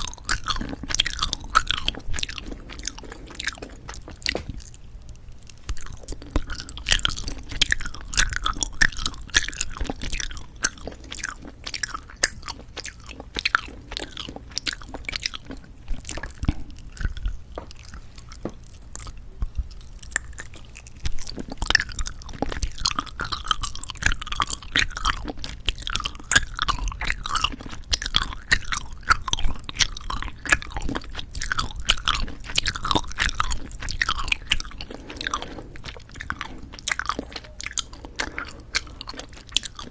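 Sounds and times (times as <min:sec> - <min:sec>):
chewing jelly candy: 0:00.0 - 0:39.9.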